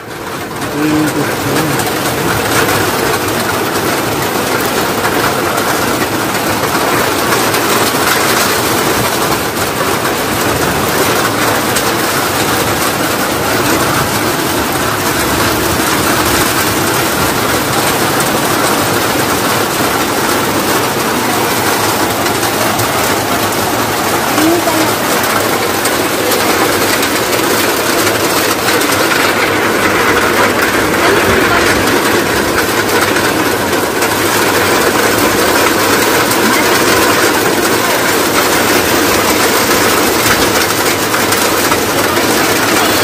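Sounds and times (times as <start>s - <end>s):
steady rain on vegetation: 0.0s - 43.0s.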